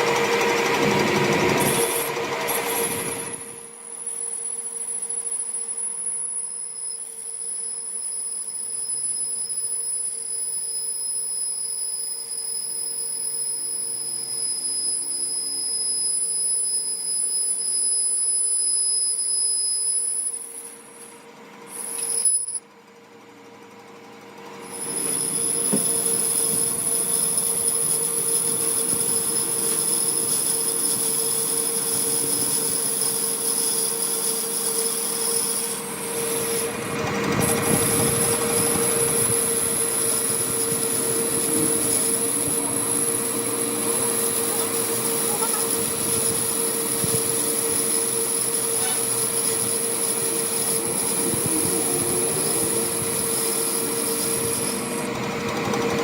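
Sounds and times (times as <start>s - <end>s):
machine whining on metal: 0.0s - 56.0s.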